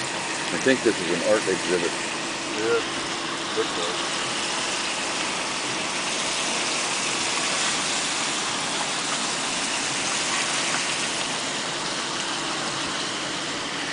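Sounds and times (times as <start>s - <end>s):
car road and wind noise: 0.0s - 13.9s.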